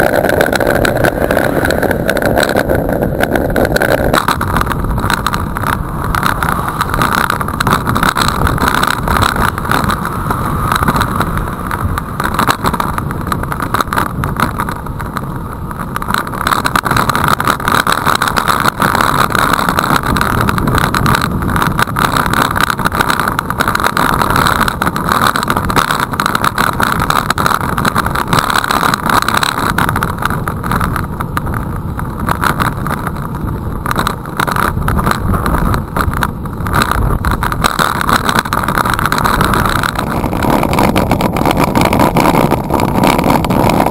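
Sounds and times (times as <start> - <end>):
wind on microphone: 0.0 - 43.9.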